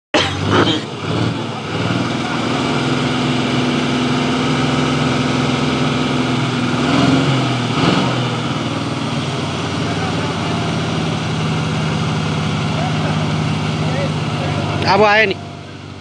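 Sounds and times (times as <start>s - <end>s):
truck engine running: 0.1s - 16.0s
people's voices: 0.2s - 5.6s, 8.4s - 16.0s.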